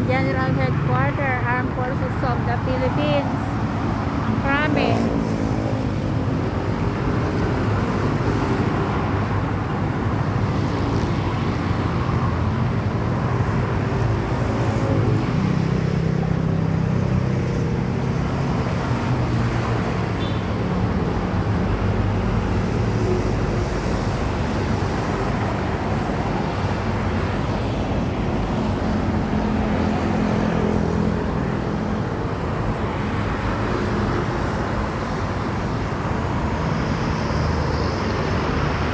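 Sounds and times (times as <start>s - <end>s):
road traffic hum: 0.0s - 38.9s.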